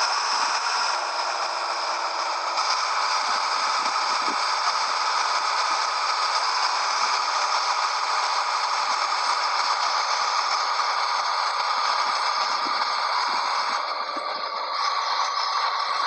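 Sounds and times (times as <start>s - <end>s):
continuous rattle: 0.0s - 16.0s
truck running noise: 0.0s - 16.0s.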